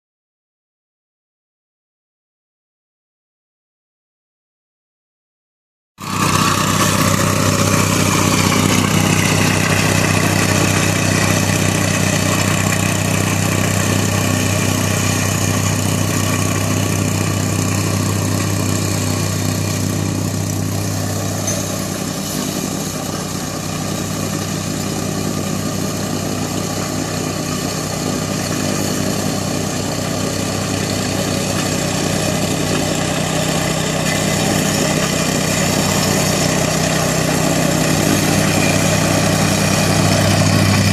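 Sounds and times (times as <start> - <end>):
engine idling: 6.0 - 40.9.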